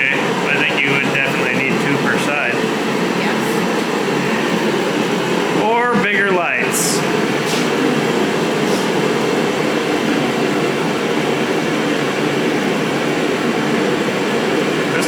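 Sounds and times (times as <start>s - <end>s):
air blower droning: 0.0s - 15.0s.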